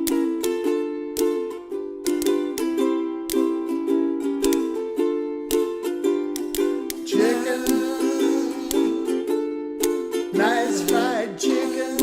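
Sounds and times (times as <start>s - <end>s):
strummed string instrument chords: 0.0s - 12.0s.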